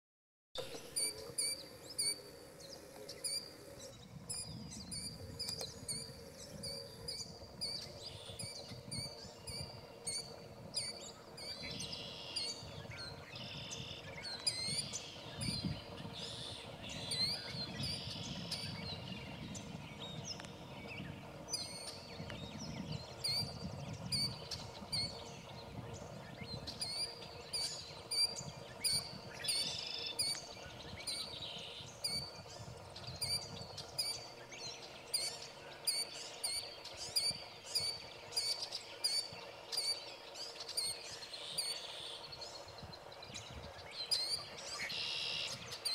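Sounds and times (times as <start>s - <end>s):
birds chirping: 0.6s - 45.9s
low background rumble: 0.6s - 45.9s.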